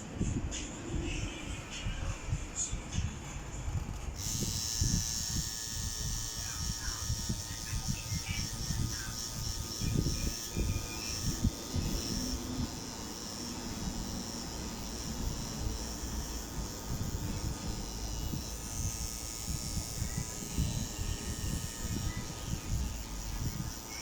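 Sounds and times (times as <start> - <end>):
tattoo machine buzzing: 0.0 - 24.0.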